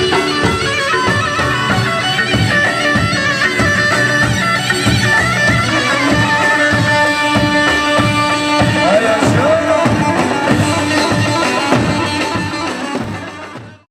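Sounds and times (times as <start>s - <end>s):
steady drum beat: 0.0s - 13.8s
dance band melody: 0.0s - 13.9s.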